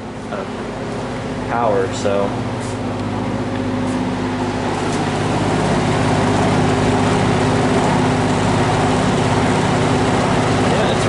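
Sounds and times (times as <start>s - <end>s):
box fan running: 0.0s - 11.0s.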